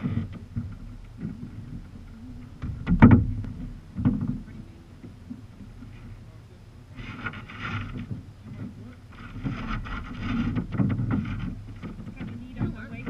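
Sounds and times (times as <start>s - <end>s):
kayak paddle strokes: 0.0s - 13.0s
water sloshing against hull: 0.0s - 13.0s.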